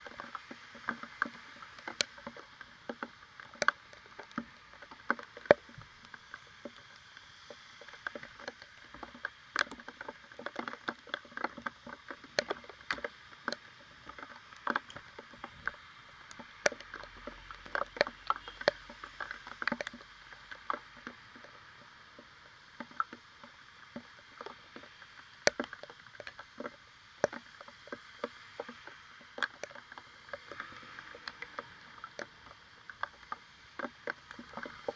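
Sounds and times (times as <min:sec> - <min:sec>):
rain and road spray hiss: 0:00.0 - 0:22.8, 0:27.3 - 0:34.9
raindrops tapping on camera housing: 0:00.0 - 0:34.9.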